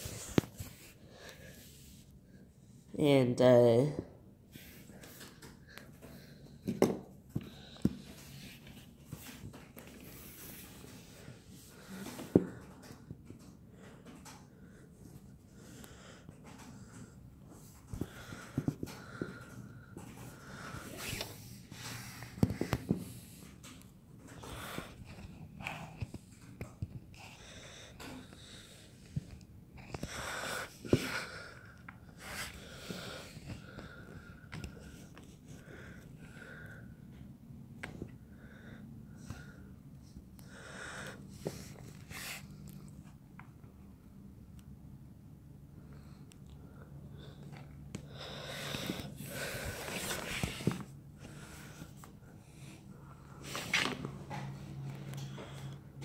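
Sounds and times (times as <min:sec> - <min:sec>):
person breathing close up: 0:00.0 - 0:02.7, 0:04.5 - 0:13.0, 0:13.7 - 0:23.6, 0:24.3 - 0:26.2, 0:27.1 - 0:37.3, 0:38.2 - 0:42.9, 0:45.7 - 0:53.8.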